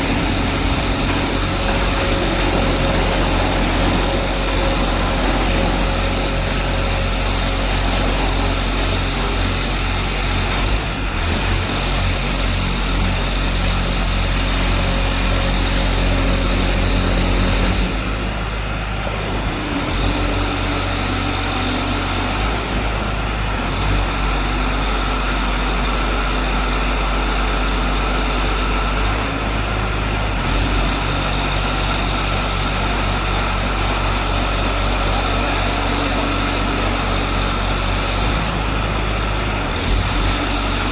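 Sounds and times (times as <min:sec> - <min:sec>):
baler engine running: 0:00.0 - 0:40.9.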